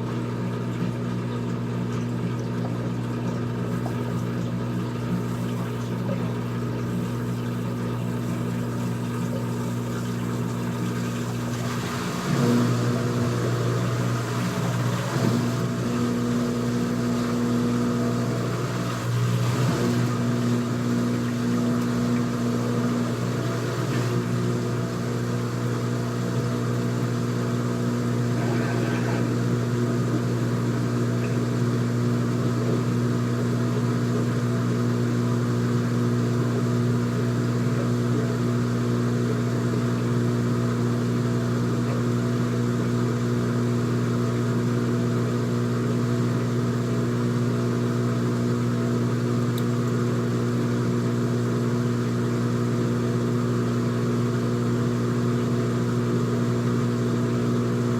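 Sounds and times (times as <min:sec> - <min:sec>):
washing machine motor hum: 0:00.0 - 0:57.9.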